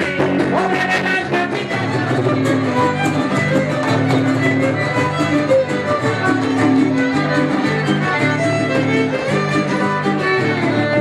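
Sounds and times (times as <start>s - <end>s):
fast guitar strumming: 0.0s - 11.0s
violin melody: 0.0s - 11.0s.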